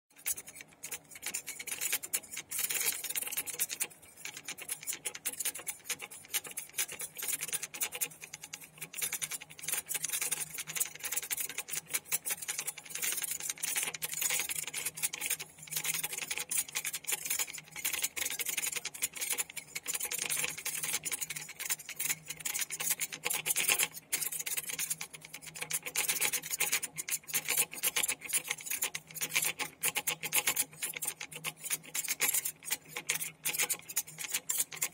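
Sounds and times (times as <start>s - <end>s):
spinning bowl rasping and ticking: 0.1s - 34.9s.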